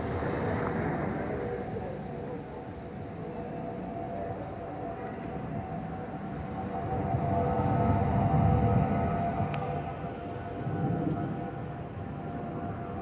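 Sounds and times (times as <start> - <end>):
jet engine rumble with whine: 0.0 - 13.0.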